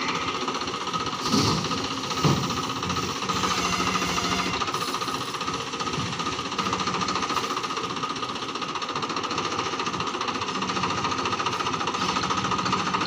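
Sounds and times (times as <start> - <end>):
tractor diesel engine clattering: 0.0 - 13.0.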